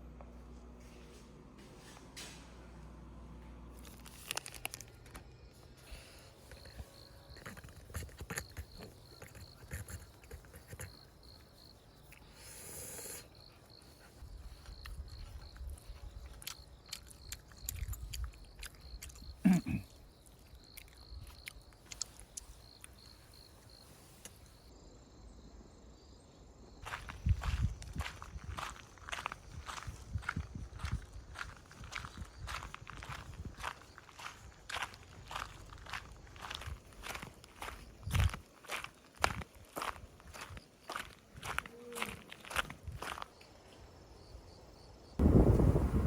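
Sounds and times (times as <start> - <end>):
crickets chirping: 3.8 - 46.0.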